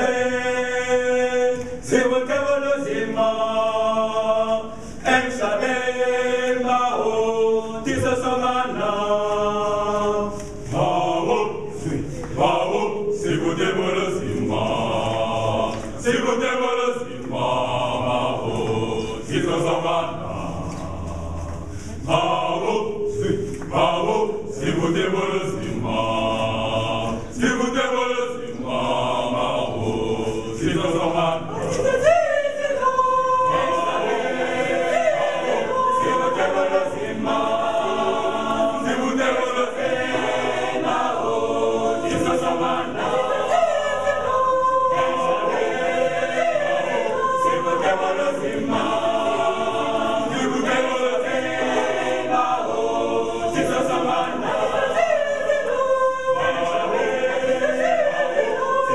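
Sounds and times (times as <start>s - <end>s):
mixed choir singing a cappella: 0.0s - 58.9s.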